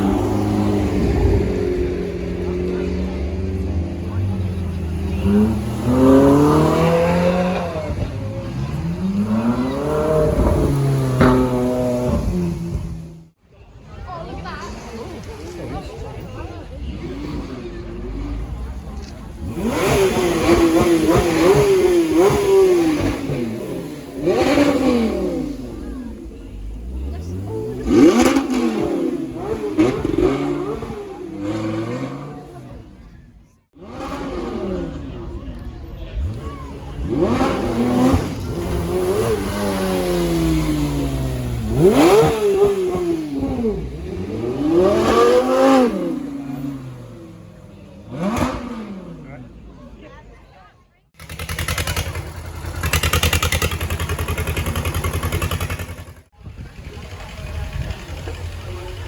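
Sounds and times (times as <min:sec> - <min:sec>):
car engine revving: 0:00.0 - 0:13.4, 0:14.6 - 0:50.0, 0:51.2 - 0:59.0.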